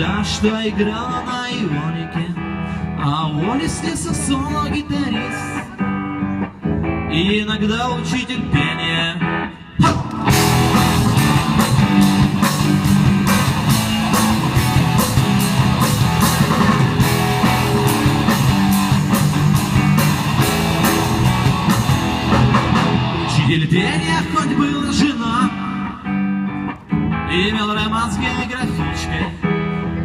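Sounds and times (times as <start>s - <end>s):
rock band playing: 0.0s - 30.0s.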